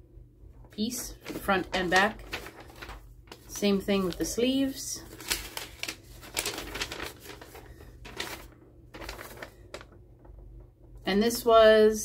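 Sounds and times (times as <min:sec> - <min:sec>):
paper rustling and crinkling: 0:00.6 - 0:10.7.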